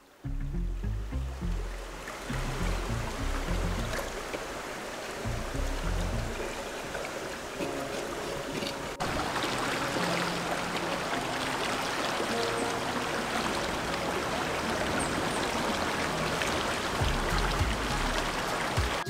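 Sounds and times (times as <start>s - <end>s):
river rushing over stones: 1.8s - 19.0s.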